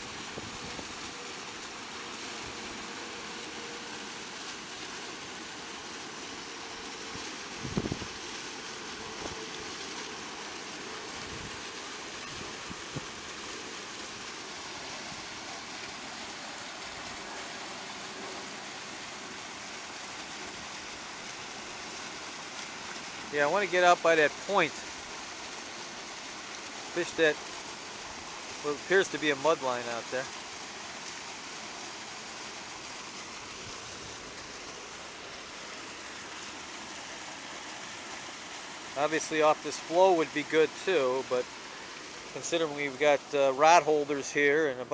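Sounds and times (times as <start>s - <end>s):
river water rushing over weir: 0.0s - 44.9s.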